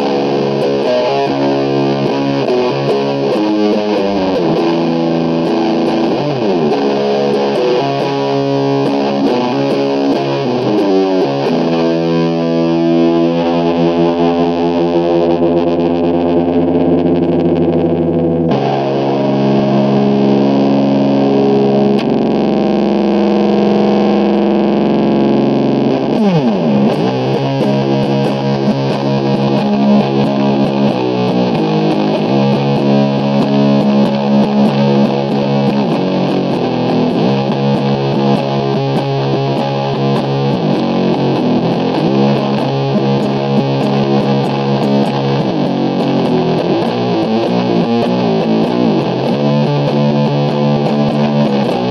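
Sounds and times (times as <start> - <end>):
distorted electric guitar riff: 0.0 - 51.9.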